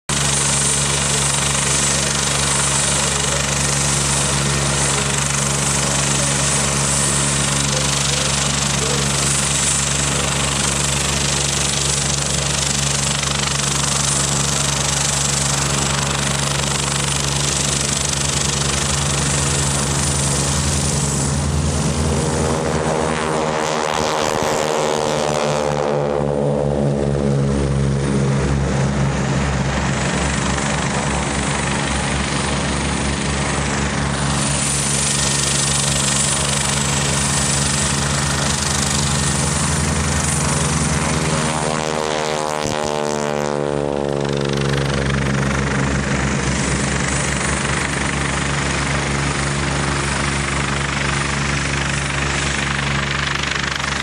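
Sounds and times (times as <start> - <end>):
helicopter engine drone: 0.1 - 54.0
propeller planes taking off: 0.1 - 54.0.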